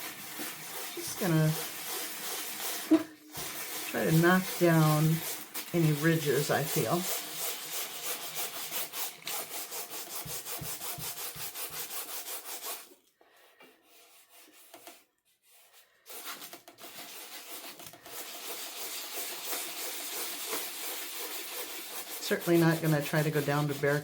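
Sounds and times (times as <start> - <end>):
sandpaper rubbing on canvas: 0.0 - 12.9, 13.8 - 24.0.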